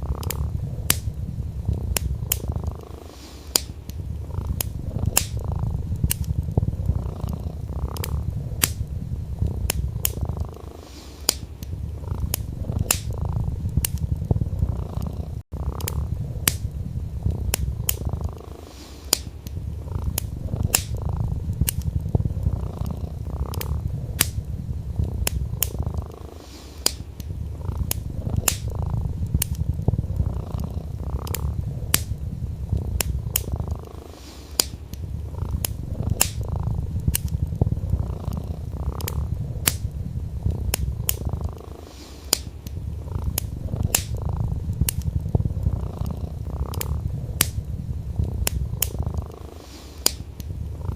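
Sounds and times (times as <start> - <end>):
burning wood crackling: 0.0 - 50.9
cat purring: 0.0 - 50.9.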